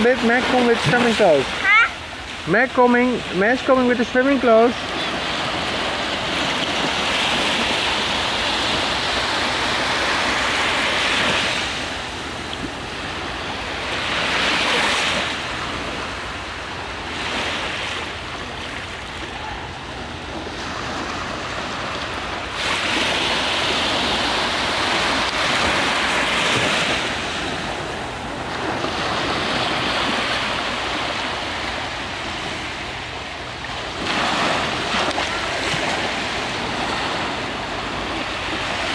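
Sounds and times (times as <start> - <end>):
small waves washing on beach: 0.0 - 38.9.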